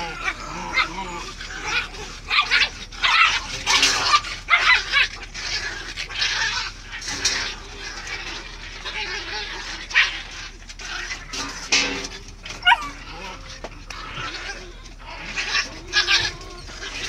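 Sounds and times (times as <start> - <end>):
puppies barking and yipping: 0.0 - 17.0
puppies scuffling: 0.0 - 17.0.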